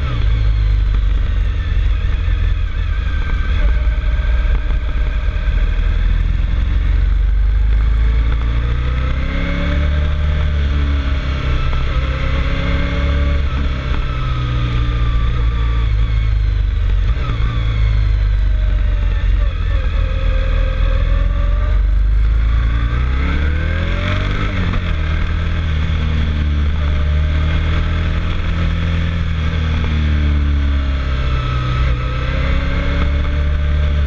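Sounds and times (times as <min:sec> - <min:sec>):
motorcycle engine revving: 0:00.0 - 0:34.0
wind and road noise: 0:00.0 - 0:34.0.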